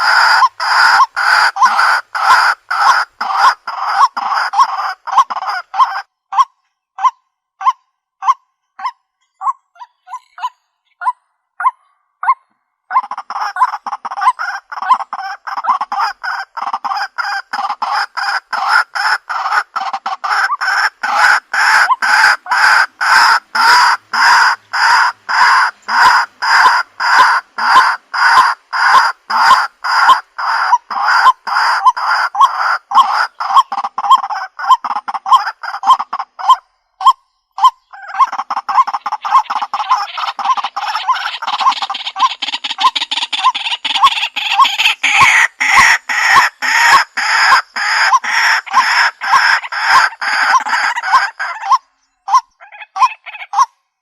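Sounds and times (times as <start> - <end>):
waterhen calling harsh notes: 0.0 - 53.7.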